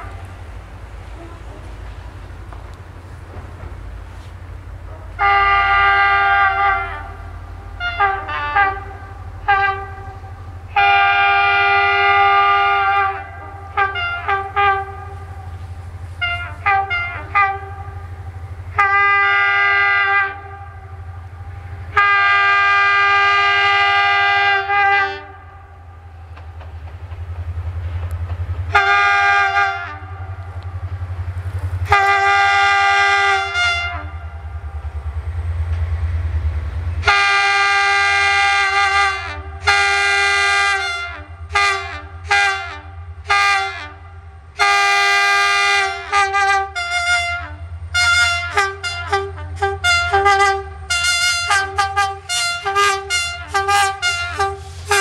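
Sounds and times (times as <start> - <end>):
low engine rumble: 0.0 - 55.0
locomotive horn blasts: 1.0 - 1.9, 4.9 - 15.6, 16.2 - 26.1, 28.7 - 30.6, 31.8 - 34.6, 37.0 - 55.0.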